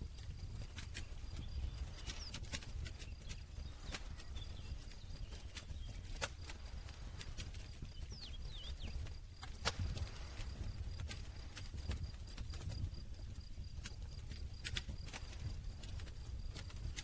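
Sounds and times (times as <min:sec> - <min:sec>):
campfire crackling: 0:00.0 - 0:17.0
fire popping and snapping: 0:00.0 - 0:17.0
low rumble of burning: 0:00.0 - 0:17.0.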